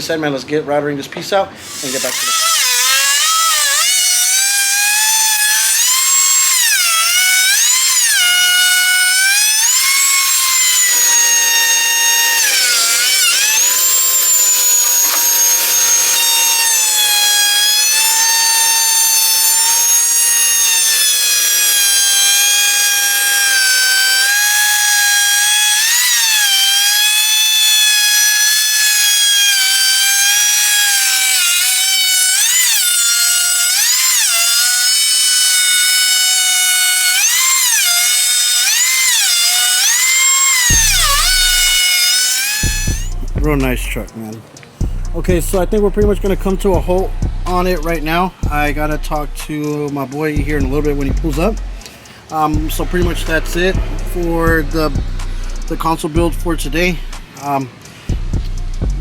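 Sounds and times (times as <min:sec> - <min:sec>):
electric router cutting wood: 0:01.6 - 0:59.0.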